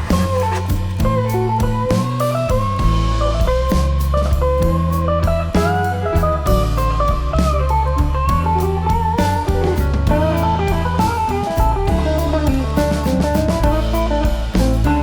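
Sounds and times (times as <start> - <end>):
bass: 0.0 - 15.0
drum kit: 0.0 - 15.0.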